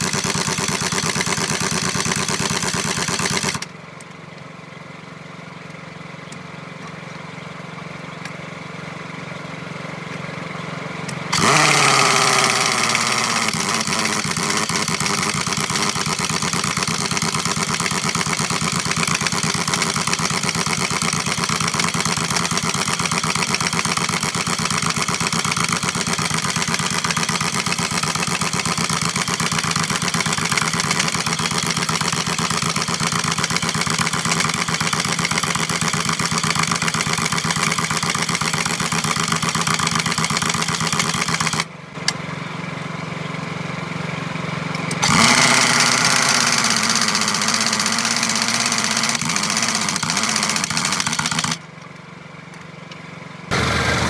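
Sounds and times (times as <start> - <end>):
engine running: 0.0 - 4.1, 5.9 - 54.0.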